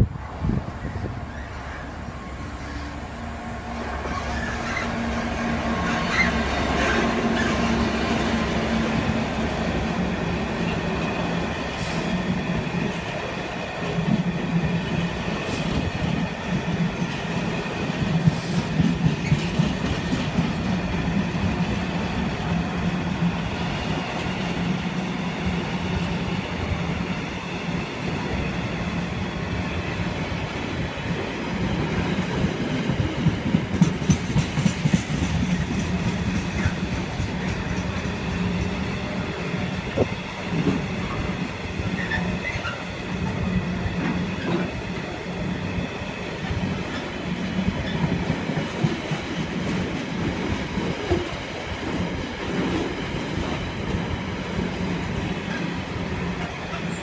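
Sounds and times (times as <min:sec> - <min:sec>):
diesel locomotive passing: 0:00.0 - 0:57.0.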